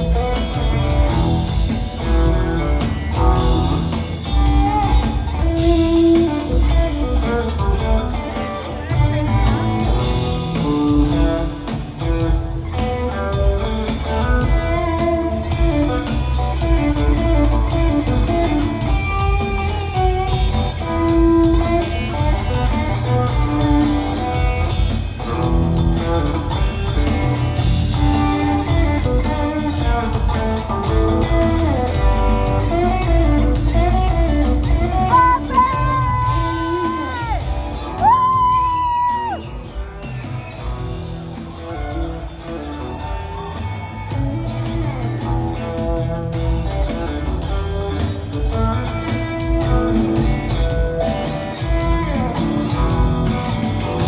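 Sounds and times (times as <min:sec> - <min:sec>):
bass and drum groove: 0:00.0 - 0:54.0
electric guitar melodic lines: 0:00.0 - 0:54.0.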